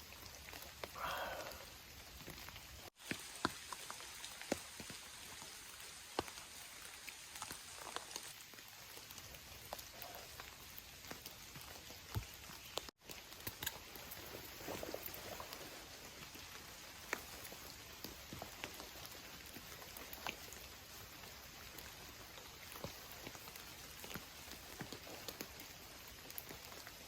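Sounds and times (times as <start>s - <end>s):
raindrops tapping: 0.0s - 27.0s
steady rain falling: 0.0s - 27.0s.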